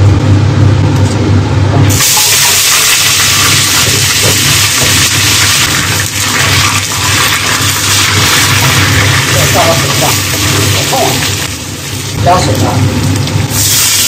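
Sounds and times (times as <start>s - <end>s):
bones sizzling in hot oil: 1.9s - 14.0s.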